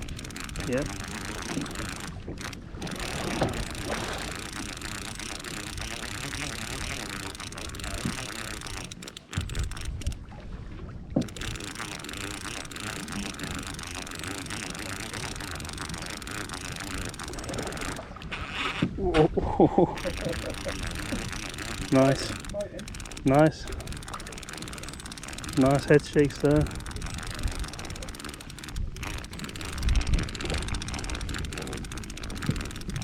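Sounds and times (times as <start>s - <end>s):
sea noise: 0.0s - 33.0s
wind: 0.0s - 33.0s.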